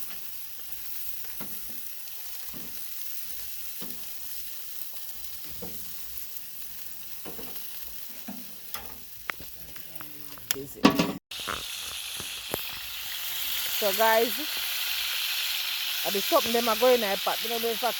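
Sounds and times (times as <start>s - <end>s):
chicken sizzling on a grill: 0.0s - 17.9s.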